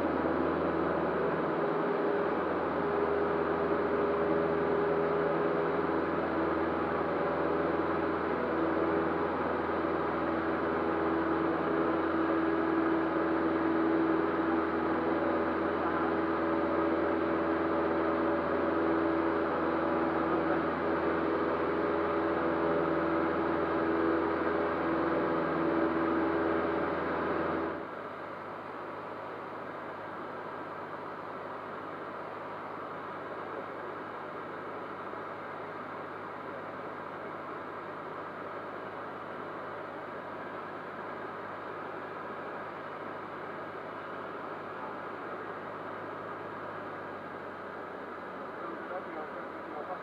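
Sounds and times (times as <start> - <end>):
airplane engine and propeller droning: 0.0 - 50.0.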